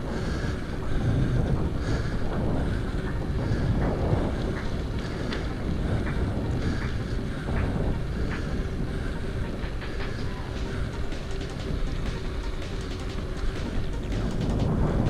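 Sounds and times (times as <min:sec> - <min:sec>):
steady low rumble: 0:00.0 - 0:15.0
wind buffeting microphone: 0:00.0 - 0:15.0.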